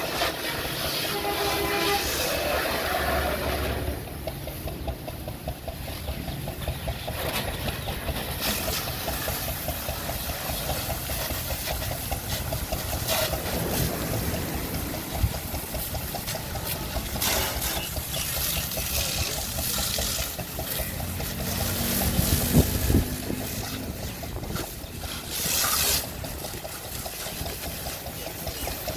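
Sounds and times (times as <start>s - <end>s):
engine hum: 0.0s - 28.9s
high-pressure water jet hissing: 0.0s - 28.9s.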